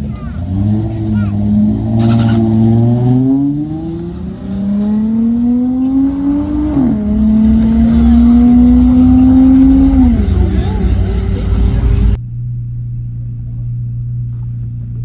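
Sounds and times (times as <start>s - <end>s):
car engine accelerating hard: 0.0s - 12.2s.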